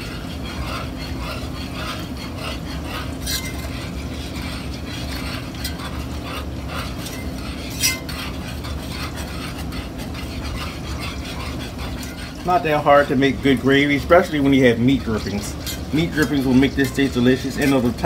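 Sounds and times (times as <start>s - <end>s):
steady low hum: 0.0s - 18.0s
whisk scraping in a skillet: 0.0s - 18.0s.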